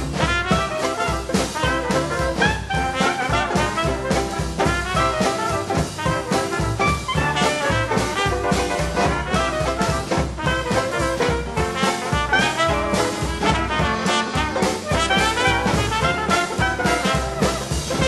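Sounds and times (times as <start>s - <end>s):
swing jazz with brass: 0.0s - 18.0s.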